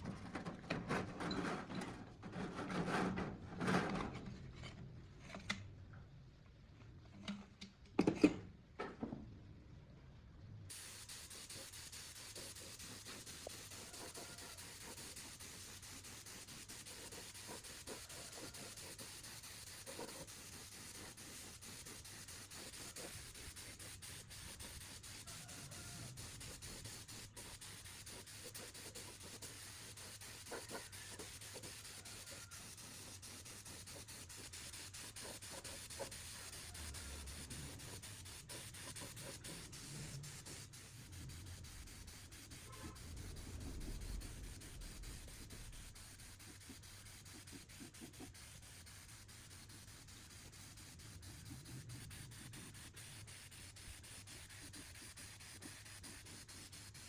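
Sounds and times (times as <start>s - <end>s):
hand rubbing on metal: 10.8s - 57.0s.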